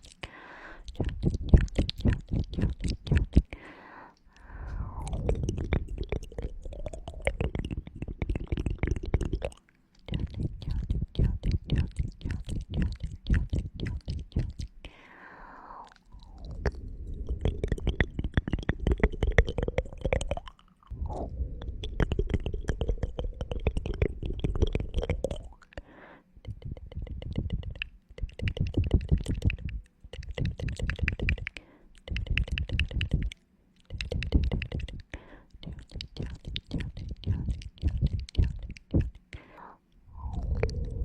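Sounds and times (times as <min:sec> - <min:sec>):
asmr clicking and crackling: 0:00.8 - 0:03.6, 0:04.2 - 0:14.9, 0:15.8 - 0:21.0, 0:21.6 - 0:25.9, 0:26.5 - 0:41.0.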